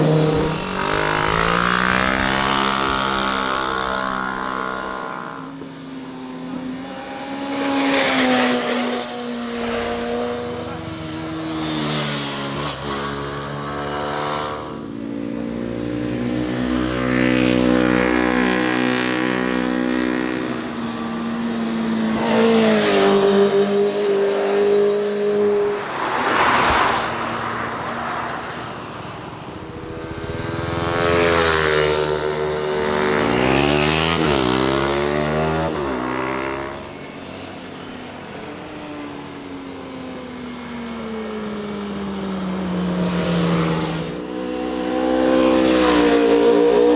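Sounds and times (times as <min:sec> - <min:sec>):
motorcycles passing: 0:00.0 - 0:46.9.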